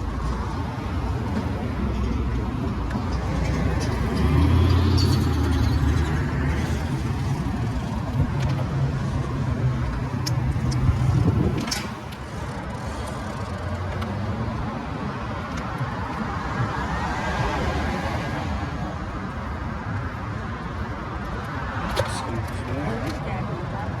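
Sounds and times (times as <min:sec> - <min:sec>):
city traffic noise: 0:00.0 - 0:24.0
vehicle engine humming: 0:00.0 - 0:24.0.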